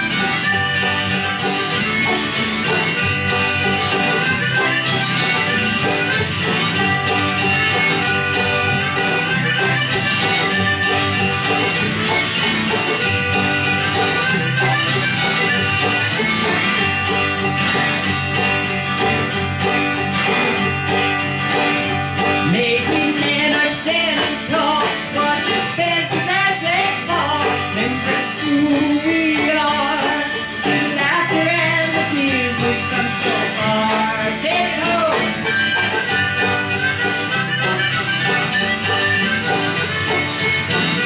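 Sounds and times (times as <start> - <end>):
acoustic guitar strumming: 0.0 - 41.0
banjo: 0.0 - 41.0
mandolin melody: 0.0 - 41.0.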